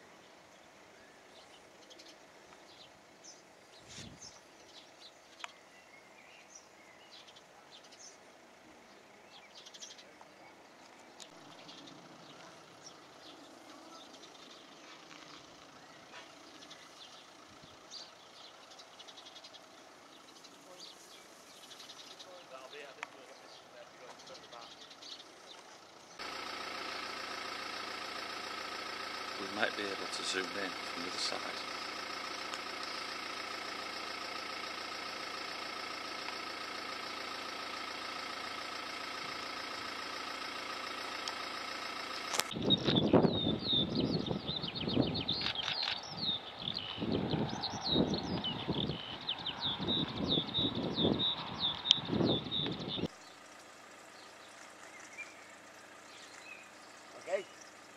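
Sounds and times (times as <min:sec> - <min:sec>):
birds chirping: 0:00.0 - 0:57.9
distant engine hum: 0:00.0 - 0:57.9.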